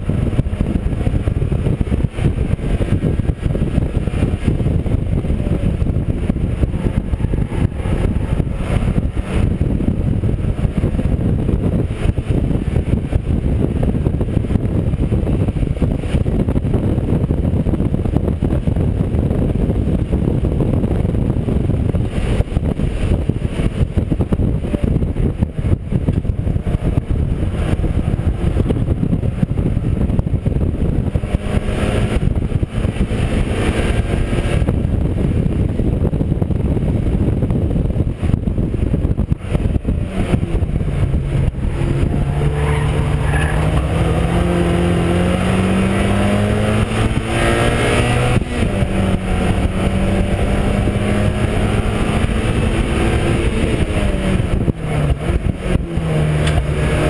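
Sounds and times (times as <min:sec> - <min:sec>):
race car engine running hard: 0:00.0 - 0:57.0
road noise: 0:00.0 - 0:57.0.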